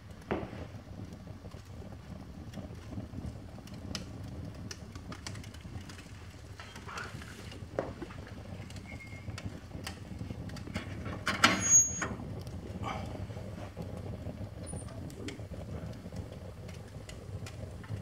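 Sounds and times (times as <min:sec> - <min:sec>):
fire rushing and crackling: 0:00.0 - 0:18.0.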